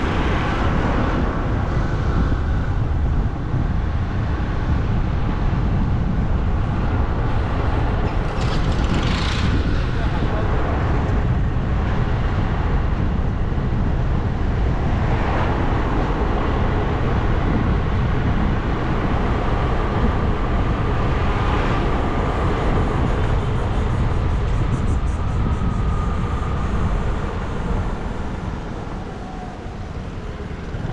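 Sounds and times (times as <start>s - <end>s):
bike road noise: 0.0s - 30.9s
wind rushing over microphone: 0.0s - 30.9s.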